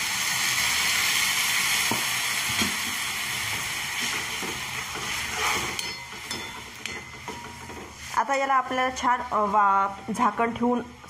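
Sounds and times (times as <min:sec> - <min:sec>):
water sizzling in hot oil: 0:00.0 - 0:11.0.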